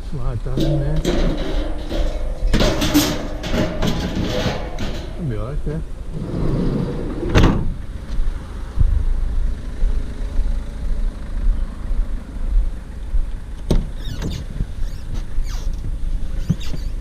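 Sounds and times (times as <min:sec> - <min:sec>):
steady low rumble: 0:00.0 - 0:13.7.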